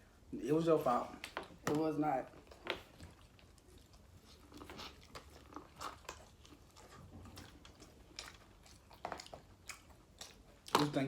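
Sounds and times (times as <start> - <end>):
faint eating and chewing: 0.0 - 11.0.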